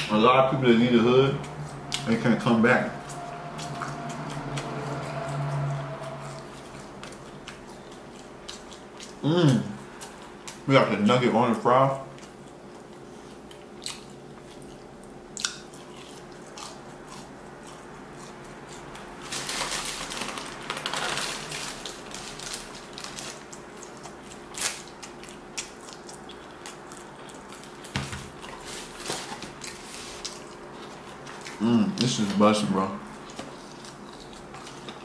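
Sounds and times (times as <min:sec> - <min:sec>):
crunchy chewing: 0:03.0 - 0:10.7, 0:12.1 - 0:32.3, 0:33.1 - 0:35.0.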